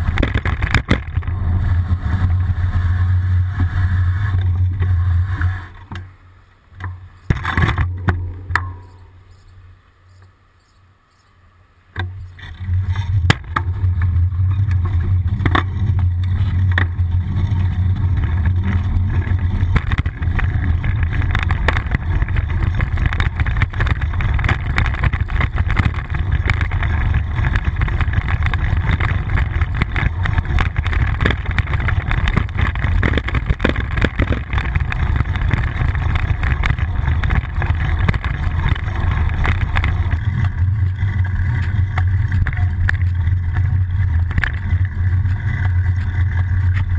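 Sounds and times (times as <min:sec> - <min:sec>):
bicycle road vibration rumble: 0:00.0 - 0:46.9.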